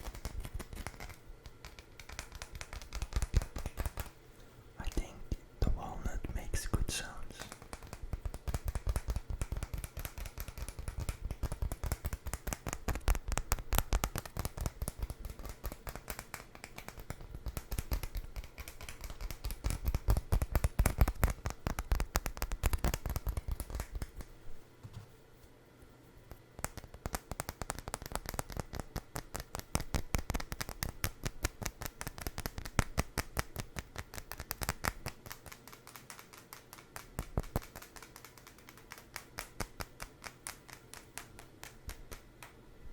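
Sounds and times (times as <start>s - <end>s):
tapping and scratching on food: 0.0s - 4.2s, 7.3s - 24.3s, 26.2s - 42.5s.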